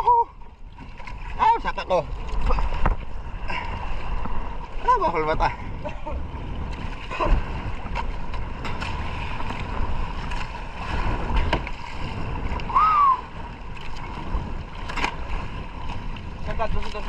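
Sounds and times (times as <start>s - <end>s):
seawater sloshing and splashing: 0.0s - 17.0s
wind: 0.0s - 17.0s.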